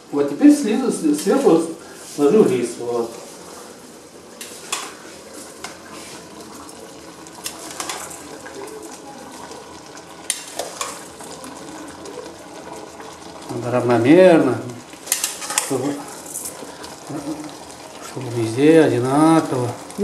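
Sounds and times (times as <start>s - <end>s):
meat sizzling: 1.0s - 20.0s.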